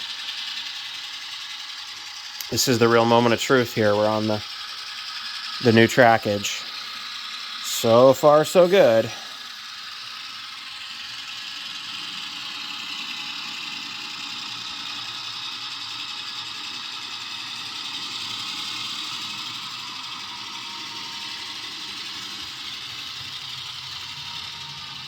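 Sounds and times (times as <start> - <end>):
model locomotive diesel engine sound: 0.0 - 25.0.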